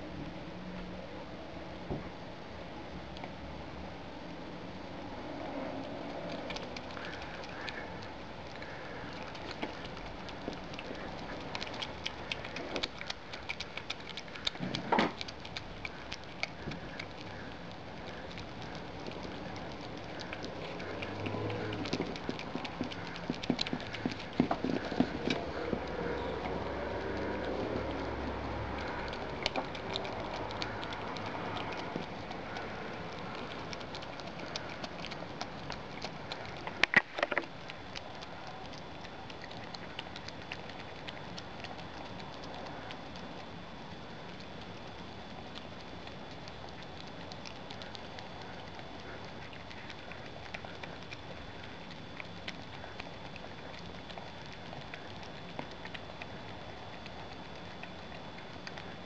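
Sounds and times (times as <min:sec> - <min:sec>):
possum chewing: 0:02.7 - 0:03.4, 0:04.9 - 0:59.0.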